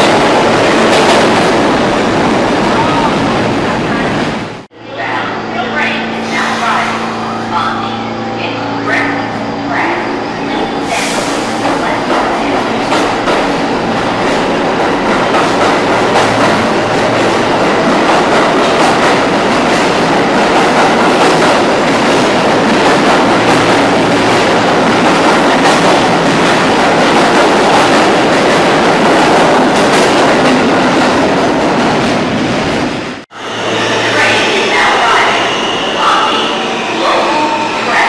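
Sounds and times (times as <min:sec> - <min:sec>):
subway train passing: 0:00.0 - 0:38.0.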